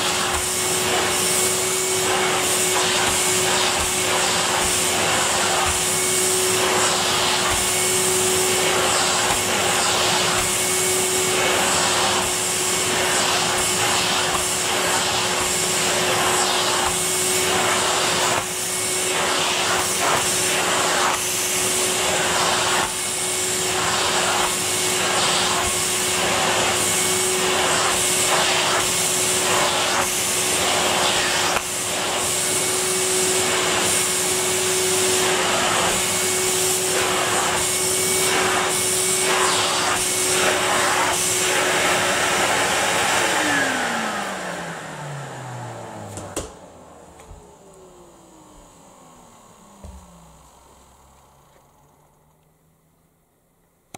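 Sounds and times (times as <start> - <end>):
vacuum cleaner motor whine: 0.0 - 53.7.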